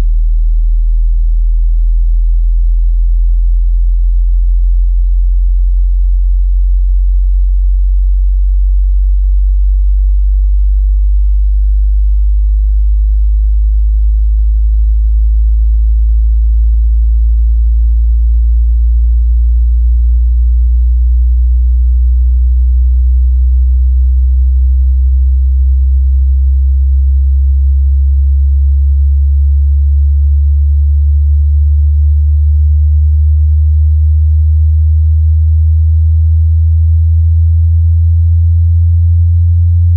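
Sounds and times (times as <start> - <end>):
deep sine test tone rising: 0.0 - 39.9.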